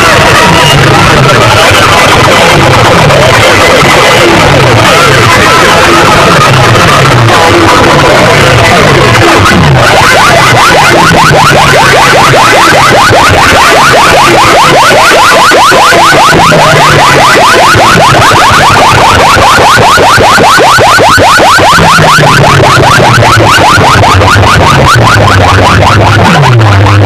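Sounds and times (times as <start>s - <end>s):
distorted stepping bass line: 0.0s - 27.0s
rapid electronic siren chirps: 0.0s - 27.0s.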